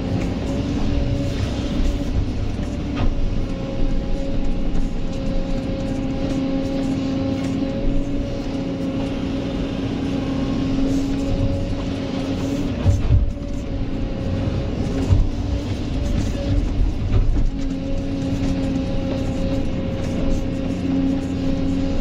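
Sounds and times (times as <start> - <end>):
excavator engine drone: 0.0 - 22.0.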